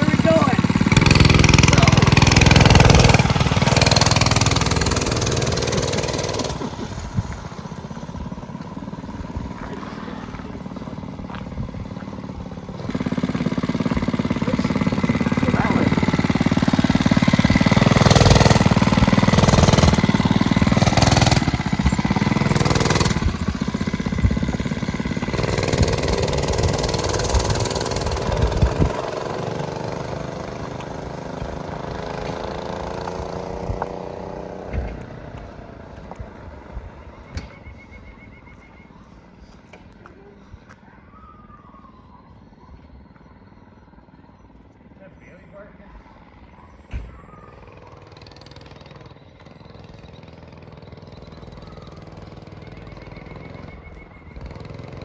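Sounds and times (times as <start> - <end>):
mini bike engine revving: 0.0 - 38.5, 39.2 - 55.0.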